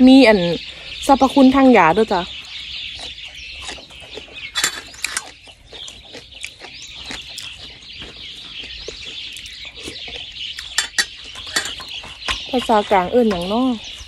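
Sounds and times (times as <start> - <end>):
birds chirping: 0.0 - 14.0
chewing: 2.2 - 14.0.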